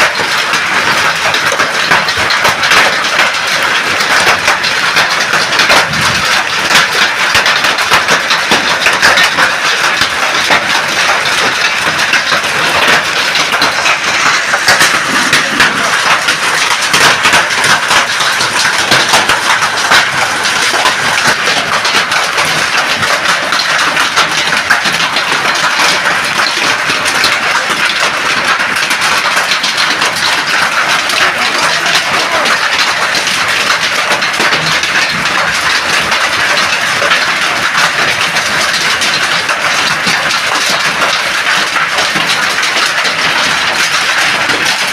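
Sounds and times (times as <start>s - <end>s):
hailstones striking: 0.0s - 44.9s
heavy rain: 0.0s - 44.9s.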